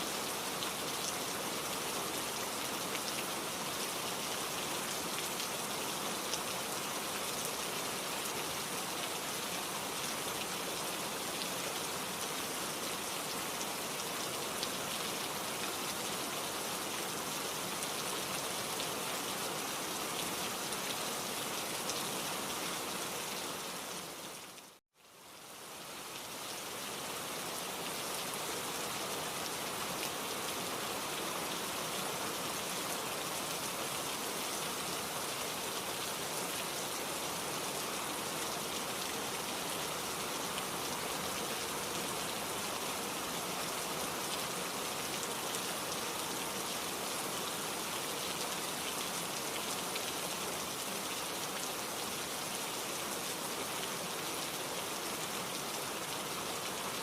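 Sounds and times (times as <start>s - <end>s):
dense rain falling: 0.0s - 57.0s.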